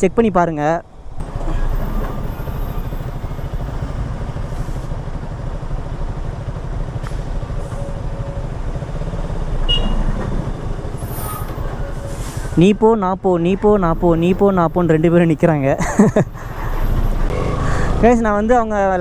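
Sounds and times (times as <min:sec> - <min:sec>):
motorcycle engine rumbling: 0:01.2 - 0:19.0.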